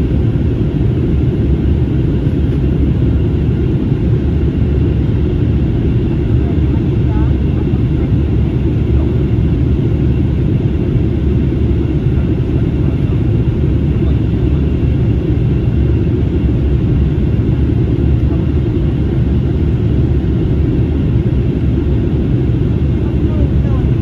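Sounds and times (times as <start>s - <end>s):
airplane cabin roar: 0.0s - 24.0s.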